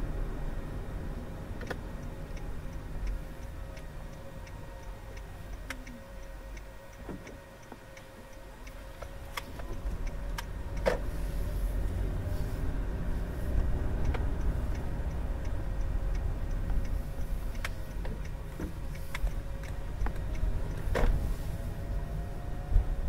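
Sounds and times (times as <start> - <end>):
car engine and road noise: 0.0 - 23.0
turn signal ticking: 0.0 - 23.0.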